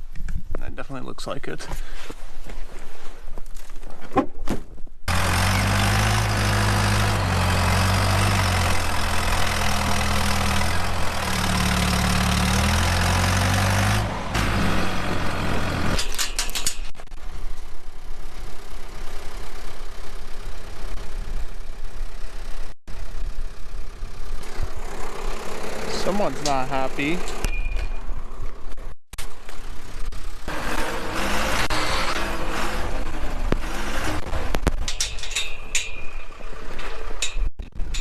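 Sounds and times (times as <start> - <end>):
engine running under load: 5.1 - 38.0.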